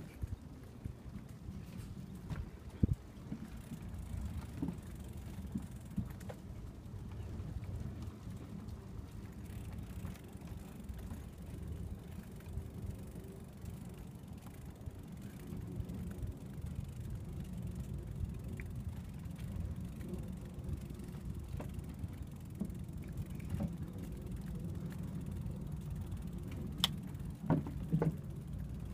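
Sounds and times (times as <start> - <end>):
bicycle tyres rumbling on boardwalk: 0.0 - 28.9.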